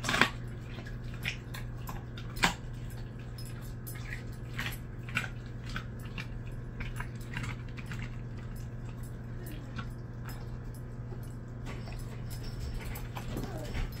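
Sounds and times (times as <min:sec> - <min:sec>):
dog licking and chewing in metal bowl: 0:00.0 - 0:14.0.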